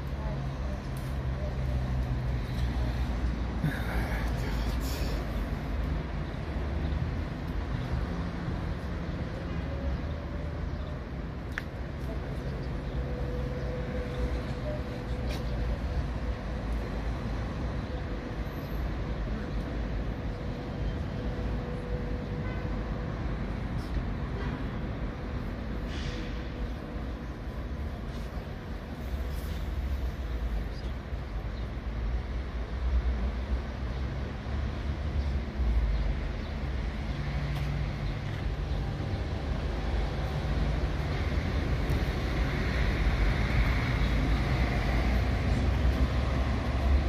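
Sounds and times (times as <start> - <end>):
street traffic rumble: 0.0 - 47.0.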